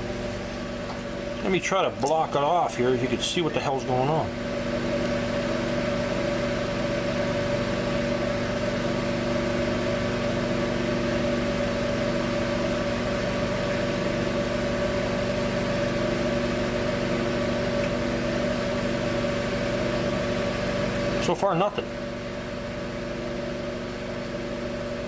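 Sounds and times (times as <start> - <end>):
microwave oven humming: 0.0 - 25.0.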